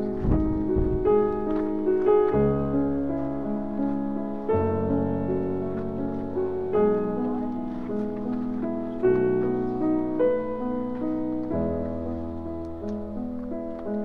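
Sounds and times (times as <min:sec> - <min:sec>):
slow keyboard chords: 0:00.0 - 0:14.0.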